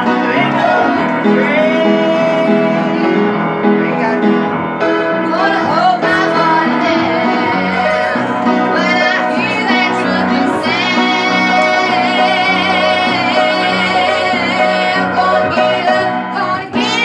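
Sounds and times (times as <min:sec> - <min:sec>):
women singing gospel song: 0:00.0 - 0:03.4, 0:05.2 - 0:17.0
piano playing held chords: 0:00.0 - 0:17.0.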